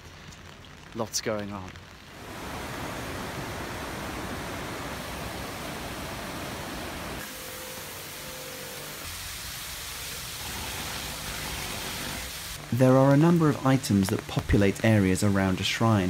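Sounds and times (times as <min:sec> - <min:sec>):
falling rain: 0:00.0 - 0:16.0
small waterfall pouring into pond: 0:00.0 - 0:16.0.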